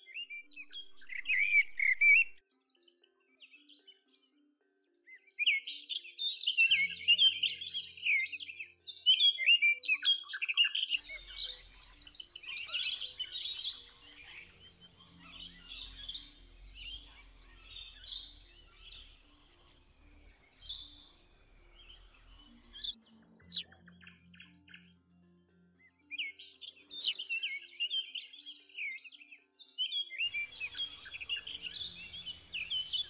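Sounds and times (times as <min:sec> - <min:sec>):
small birds chirping and trilling: 0:00.0 - 0:02.4, 0:05.4 - 0:24.9, 0:26.2 - 0:33.0
soft background music: 0:00.0 - 0:33.0.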